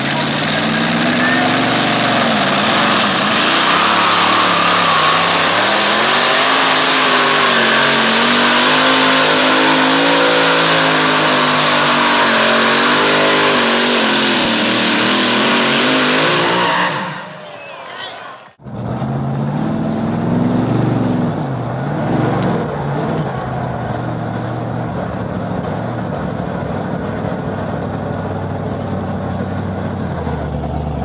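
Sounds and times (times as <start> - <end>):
engine running under heavy load: 0.0 - 31.0.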